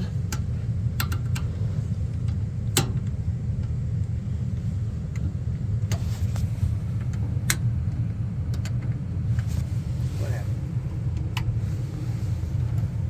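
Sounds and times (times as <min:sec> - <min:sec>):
gas furnace humming: 0:00.0 - 0:13.0.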